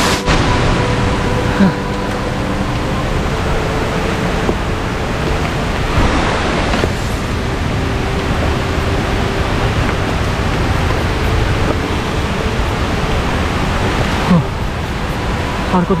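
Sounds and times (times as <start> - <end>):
rushing water of stream cascade: 0.0 - 16.0.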